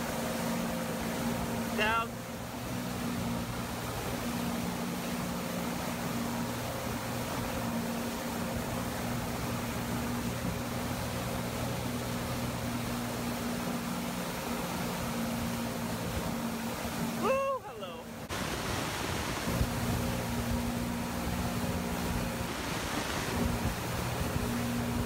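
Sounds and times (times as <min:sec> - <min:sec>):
boat engines humming: 0:00.0 - 0:25.0
rushing water: 0:00.0 - 0:25.0
wind: 0:00.0 - 0:25.0.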